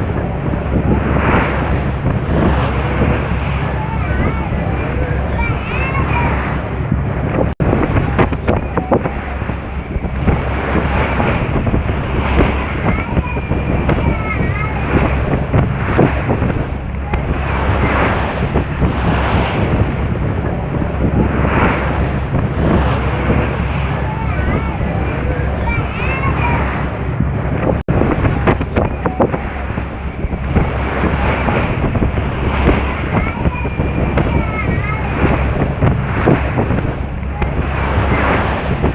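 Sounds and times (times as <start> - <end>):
sea waves on shore: 0.0 - 38.9
short splashes or knocks: 0.0 - 38.9
wind buffeting microphone: 0.0 - 38.9.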